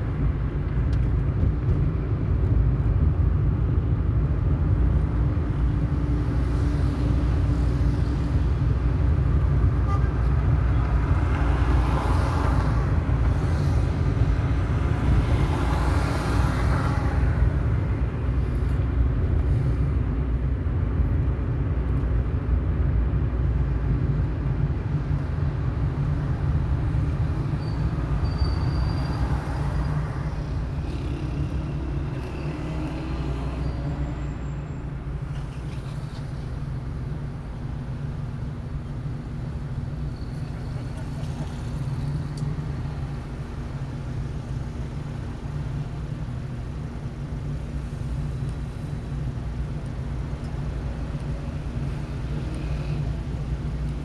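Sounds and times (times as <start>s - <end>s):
passing vehicles: 0.0s - 54.0s
road and engine rumble: 0.0s - 54.0s.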